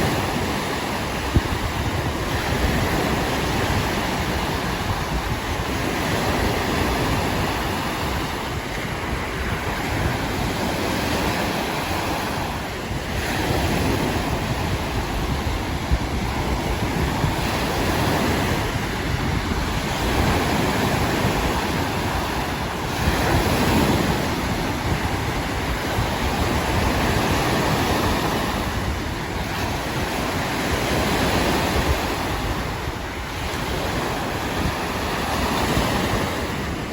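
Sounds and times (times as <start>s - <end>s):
waves breaking on shore: 0.0s - 36.9s
wind buffeting microphone: 0.0s - 36.9s.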